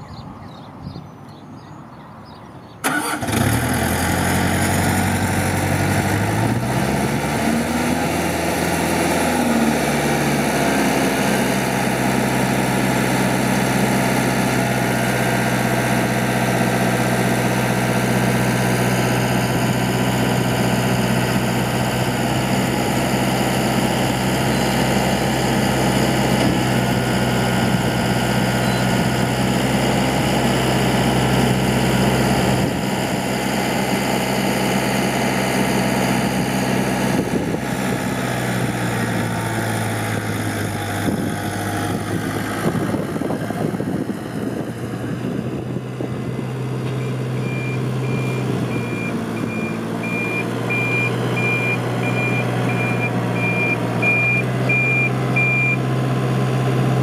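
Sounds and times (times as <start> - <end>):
tractor diesel engine idling: 2.8 - 7.1, 8.0 - 57.0.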